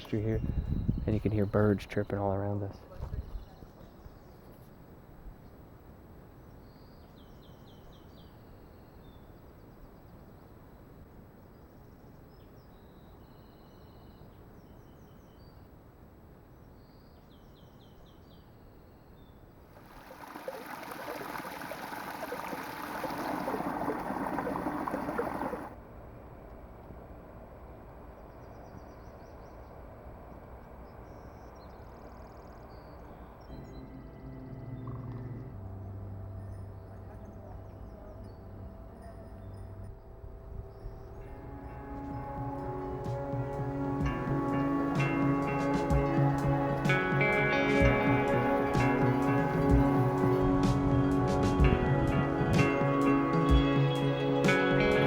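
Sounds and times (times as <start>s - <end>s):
songbirds chirping: 0.0s - 25.8s, 27.5s - 55.0s.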